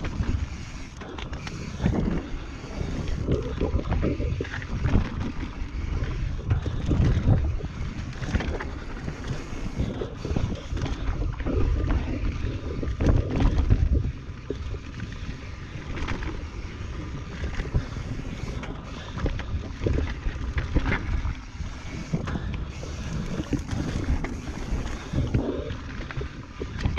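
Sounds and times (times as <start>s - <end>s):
bike knocking and rattling: 0.0s - 26.9s
wind buffeting microphone: 0.0s - 26.9s.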